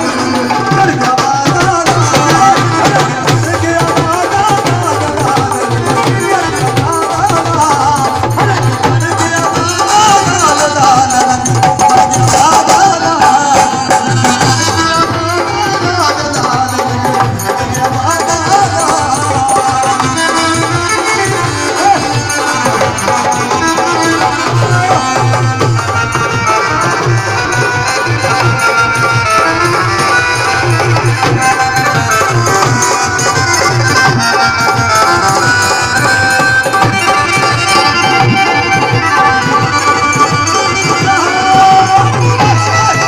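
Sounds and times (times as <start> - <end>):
dholak drums fast beat: 0.0 - 43.0.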